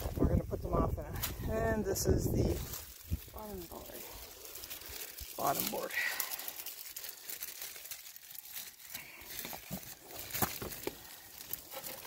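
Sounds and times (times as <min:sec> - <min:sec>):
crinkling handling noise: 0:01.0 - 0:12.0.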